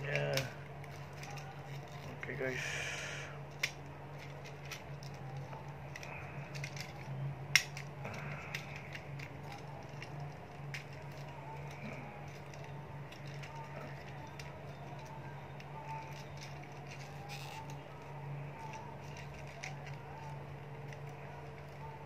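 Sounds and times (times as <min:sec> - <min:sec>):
plastic toy parts clicking: 0:00.0 - 0:02.6, 0:03.4 - 0:22.0
steady low hum: 0:00.0 - 0:22.0.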